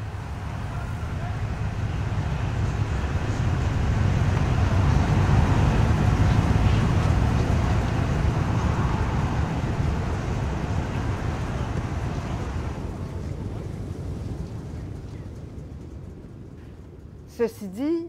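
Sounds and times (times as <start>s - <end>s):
snowmobile engines idling: 0.0s - 16.2s.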